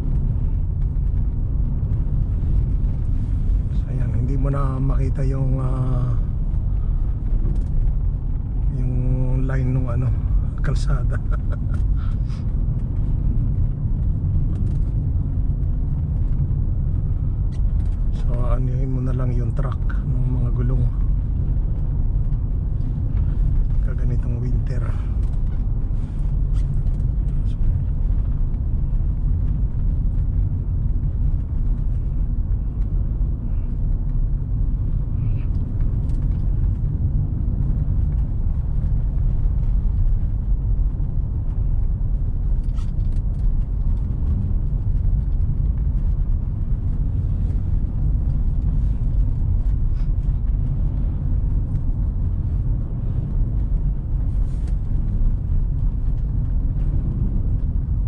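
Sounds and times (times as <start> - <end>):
car driving on snow: 0.0 - 58.0.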